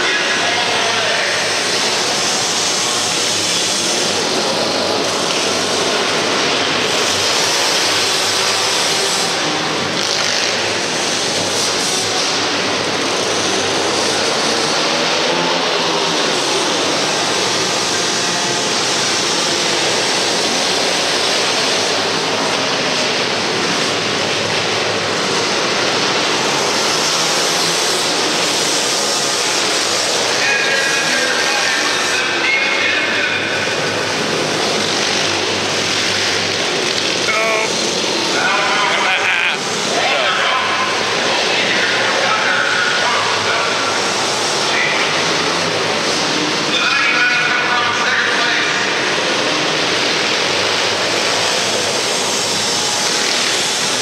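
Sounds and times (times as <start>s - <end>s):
pit bike engines racing: 0.0s - 54.0s.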